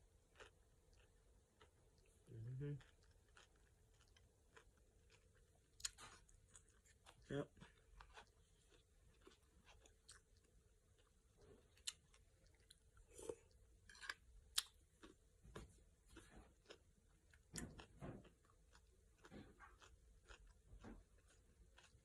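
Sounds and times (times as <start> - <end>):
chewing crisp food: 0.0 - 22.0.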